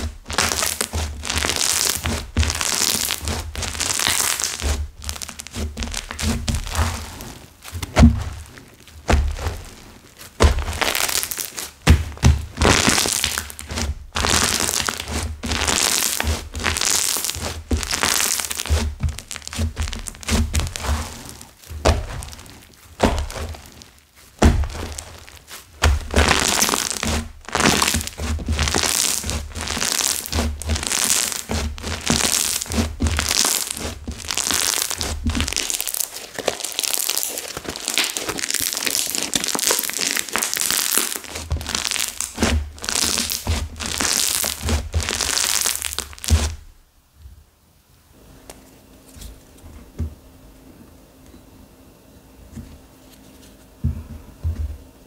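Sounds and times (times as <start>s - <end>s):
clay crackling and crunching: 0.0s - 46.8s.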